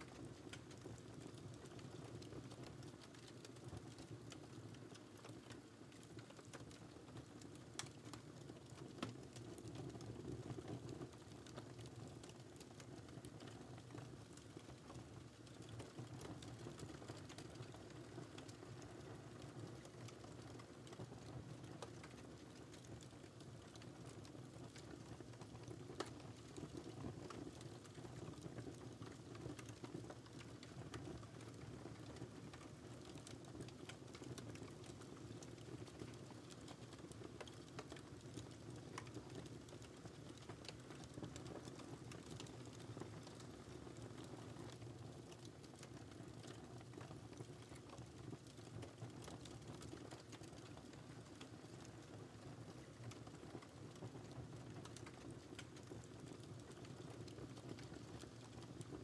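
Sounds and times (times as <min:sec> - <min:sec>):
fire popping and snapping: 0:00.0 - 0:59.0.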